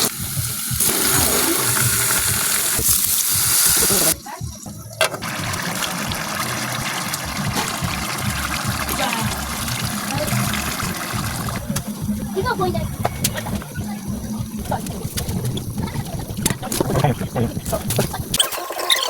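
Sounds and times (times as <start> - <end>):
tap water running into sink: 0.0 - 19.0
water trickling: 0.0 - 19.0.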